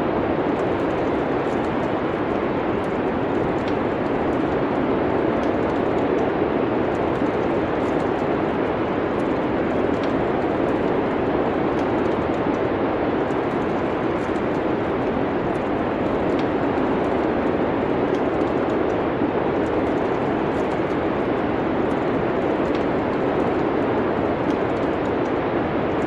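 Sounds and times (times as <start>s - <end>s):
wood fire crackling: 0.3s - 26.0s.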